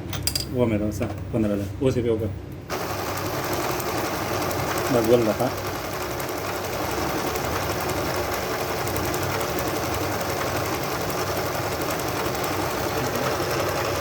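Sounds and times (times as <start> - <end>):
sewing machine stitching: 2.7 - 14.0.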